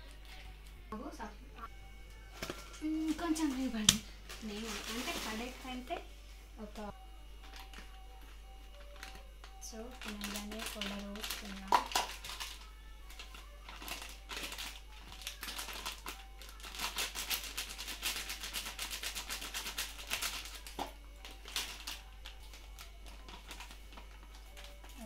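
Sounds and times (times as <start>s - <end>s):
plastic packet crinkling: 2.4s - 5.9s, 7.4s - 8.0s, 8.7s - 25.0s.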